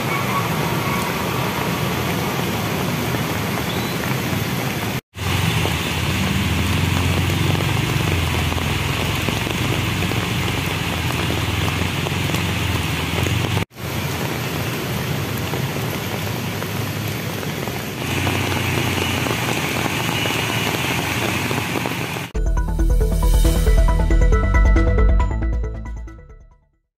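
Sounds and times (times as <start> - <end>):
heavy rain on a street: 0.0 - 22.4
vehicles splashing through water: 0.0 - 22.4.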